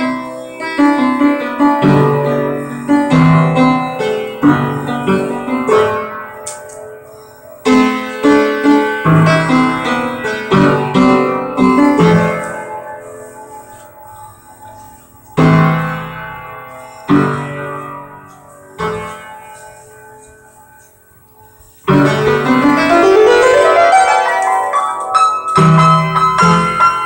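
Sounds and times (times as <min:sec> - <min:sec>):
slow piano piece: 0:00.0 - 0:27.0.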